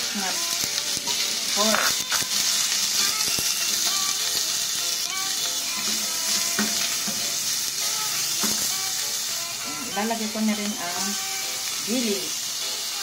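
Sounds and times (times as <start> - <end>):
meat and onion sizzling in oil: 0.0 - 13.0.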